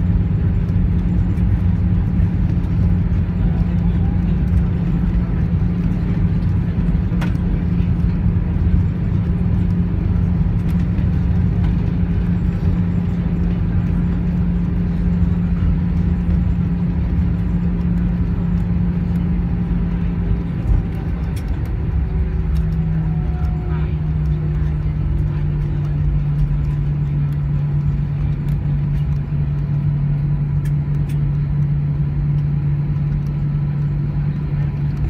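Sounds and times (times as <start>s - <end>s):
aircraft cabin rumble: 0.0s - 35.0s
low hum: 0.0s - 35.0s.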